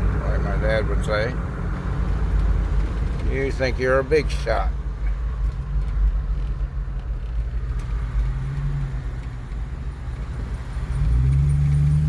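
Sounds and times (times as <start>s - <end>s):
car engine hum: 0.0s - 12.0s
road rumble: 0.0s - 12.0s.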